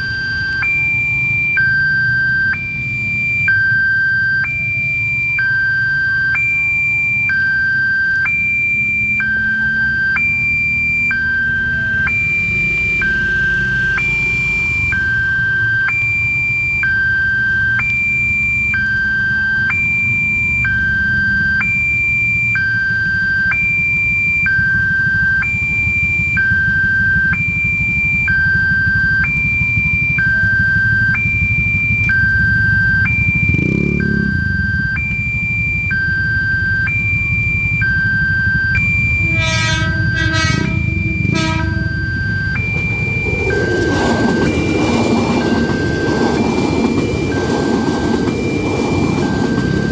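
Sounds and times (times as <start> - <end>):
two-tone crossing warning siren: 0.0 - 49.9.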